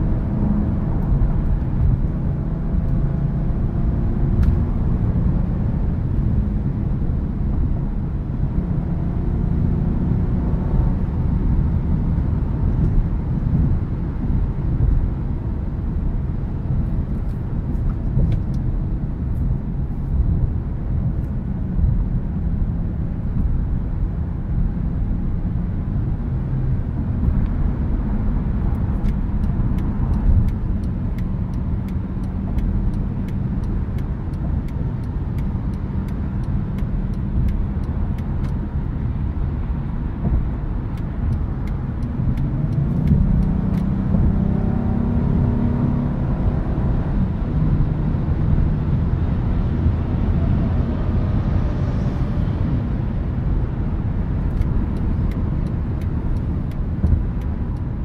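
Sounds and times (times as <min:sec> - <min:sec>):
car engine: 0:00.0 - 0:58.0
tyre and road rumble: 0:00.0 - 0:58.0.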